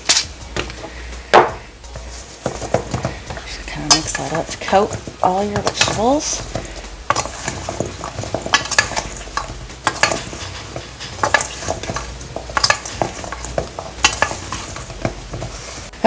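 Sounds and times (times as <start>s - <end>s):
wooden spoon scraping metal bowl: 1.8s - 16.0s.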